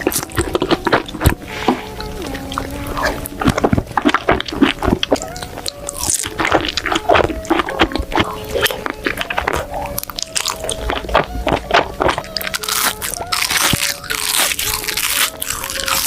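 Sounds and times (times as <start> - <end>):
background music: 0.0 - 16.0
crunching bites and chewing: 0.0 - 16.0.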